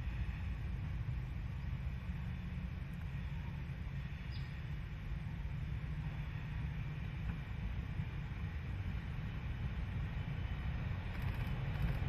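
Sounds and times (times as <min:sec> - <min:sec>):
distant diesel locomotive rumble: 0:00.0 - 0:12.0.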